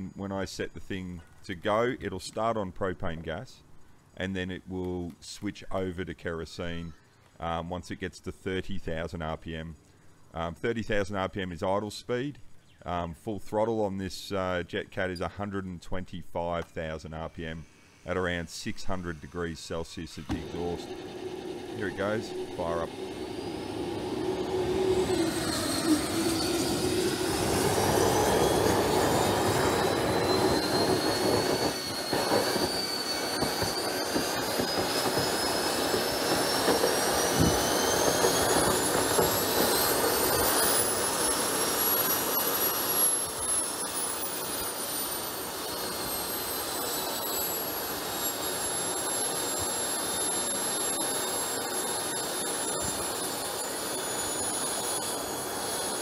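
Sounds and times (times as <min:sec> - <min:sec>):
jet turbine whine: 0:00.0 - 0:56.0.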